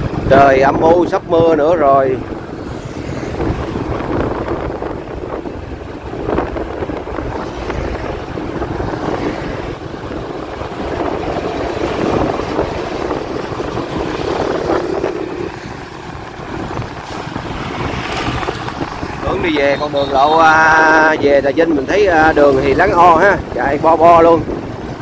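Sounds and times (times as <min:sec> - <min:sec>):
road noise: 0:00.0 - 0:25.0
wind buffeting microphone: 0:00.0 - 0:25.0
vehicle engine: 0:01.6 - 0:25.0.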